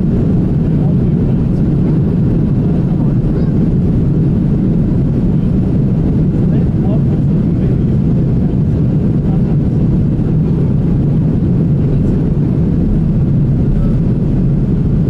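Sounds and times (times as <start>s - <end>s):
jet engines rumbling inside cabin: 0.0s - 15.0s.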